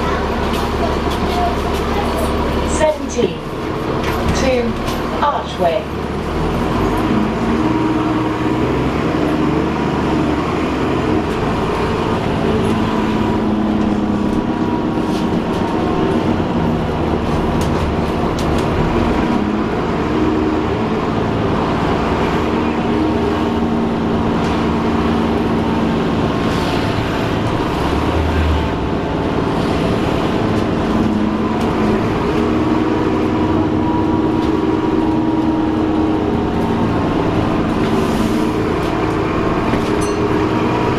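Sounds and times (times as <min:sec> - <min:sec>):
bus drivetrain whine: 0:00.0 - 0:40.9.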